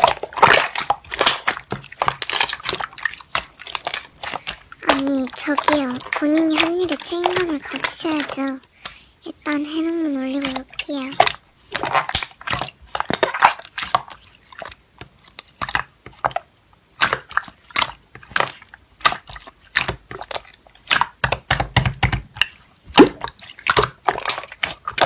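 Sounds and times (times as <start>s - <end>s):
slime squelching: 0.0s - 25.0s.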